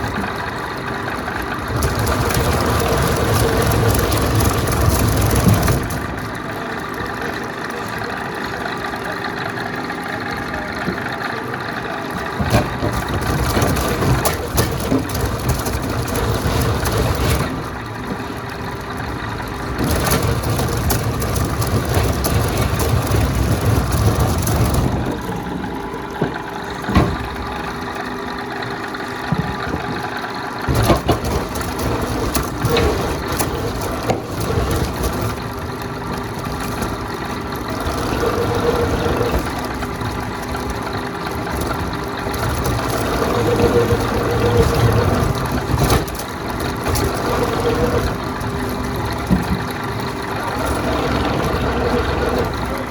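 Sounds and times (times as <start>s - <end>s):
machine hum: 0.0s - 52.9s.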